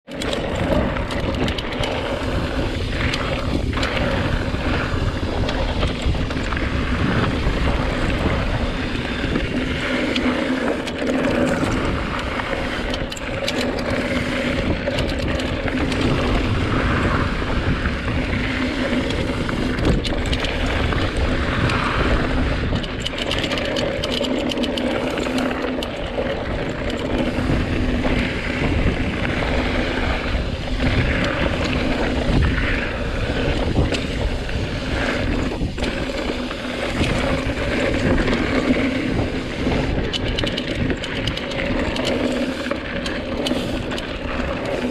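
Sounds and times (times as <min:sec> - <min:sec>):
bike clicks and rattles: 0:00.0 - 0:44.9
tyres rumbling on dirt: 0:00.0 - 0:44.9
wind buffeting microphone: 0:00.0 - 0:44.9.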